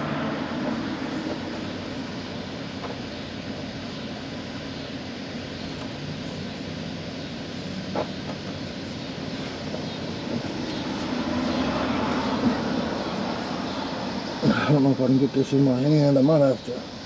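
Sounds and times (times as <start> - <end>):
passing vehicle rumble: 0.0 - 17.0.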